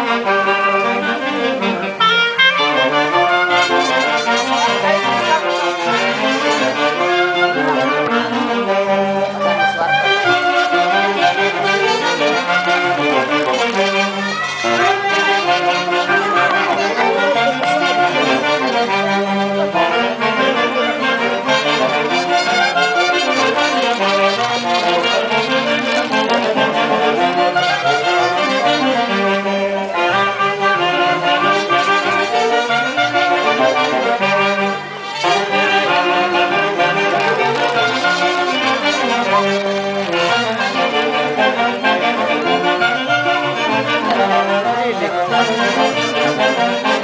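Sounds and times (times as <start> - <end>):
brass band playing: 0.0 - 47.0.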